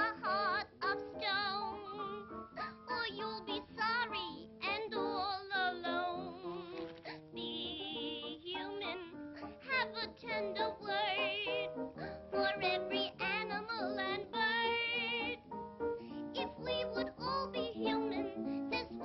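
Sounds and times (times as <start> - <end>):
high female singing voice: 0.0 - 15.4, 16.3 - 19.0.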